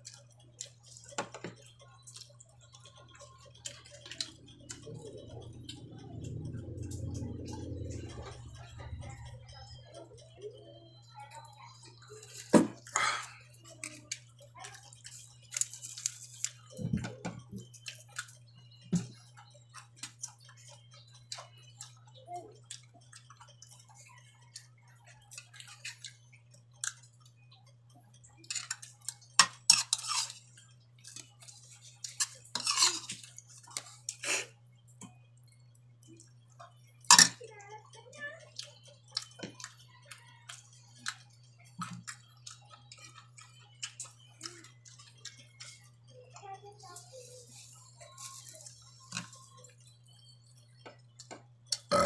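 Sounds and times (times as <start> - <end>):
chewing: 0.0 - 37.1, 37.8 - 52.0
steady low hum: 0.0 - 52.0.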